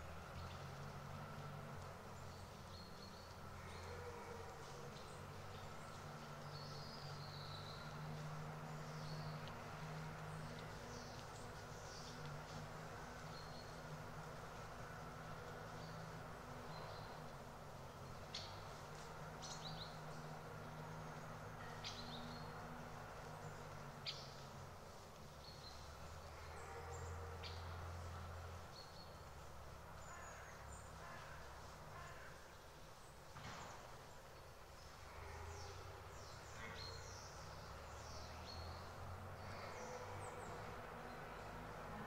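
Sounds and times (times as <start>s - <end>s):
low outdoor rumble: 0.0s - 42.0s
small birds chirping: 0.3s - 41.6s.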